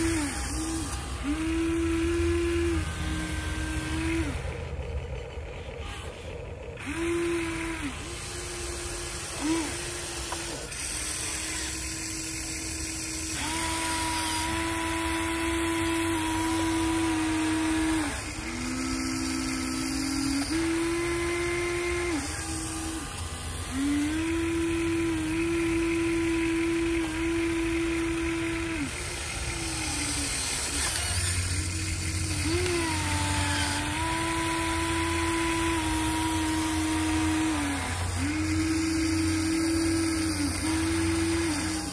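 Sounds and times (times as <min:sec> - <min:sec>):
electric gear motors whining: 0:00.0 - 0:41.9.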